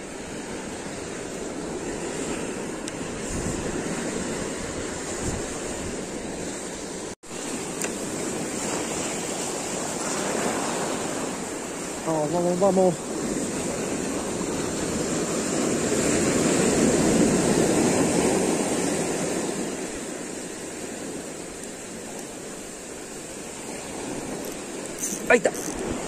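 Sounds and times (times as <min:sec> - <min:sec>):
ocean surf on sand beach: 0:00.0 - 0:26.0.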